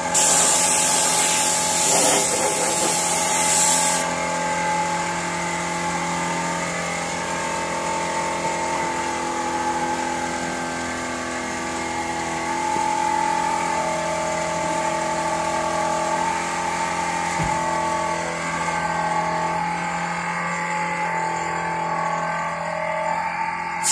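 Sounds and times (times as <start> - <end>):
workshop machinery droning: 0.0 - 23.9.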